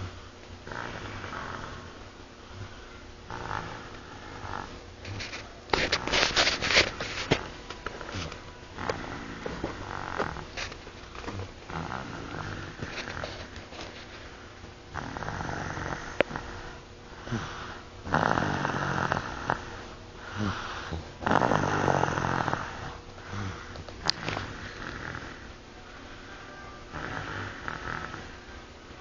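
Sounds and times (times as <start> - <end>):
child snoring: 0.0 - 13.5, 14.9 - 25.6, 26.2 - 28.6
quiet breathing: 0.0 - 29.0.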